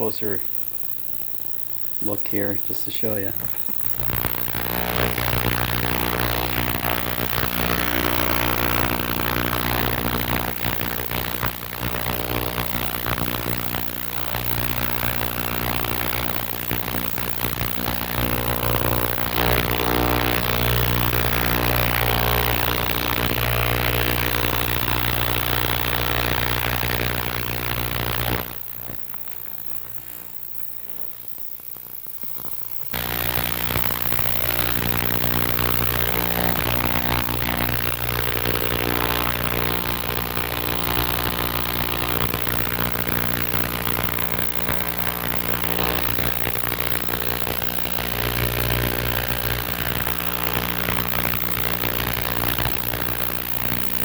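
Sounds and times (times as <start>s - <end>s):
ultrasonic cleaner buzzing hum: 0.0s - 29.8s, 32.8s - 54.0s.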